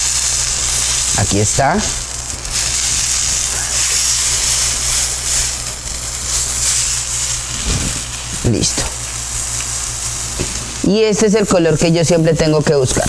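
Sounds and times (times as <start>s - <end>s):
chicken sizzling on a griddle: 0.0s - 13.0s
low steady hum: 0.0s - 13.0s.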